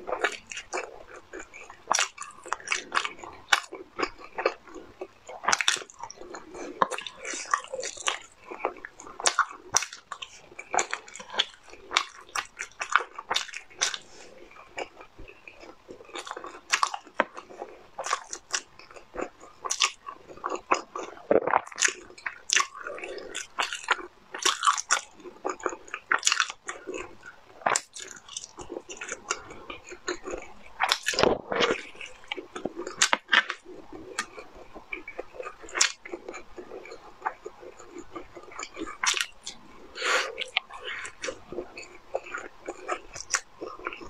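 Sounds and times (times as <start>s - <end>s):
person chewing: 0.0s - 44.0s.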